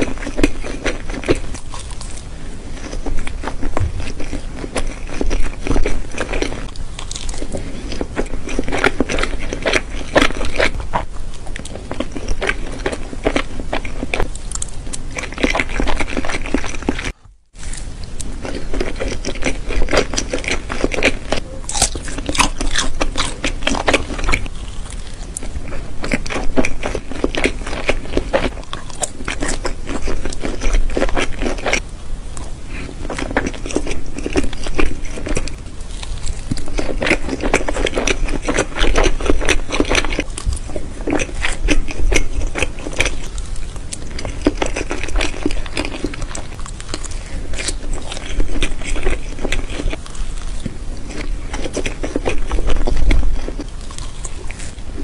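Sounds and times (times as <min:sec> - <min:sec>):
person chewing pancake: 0:00.0 - 0:55.0.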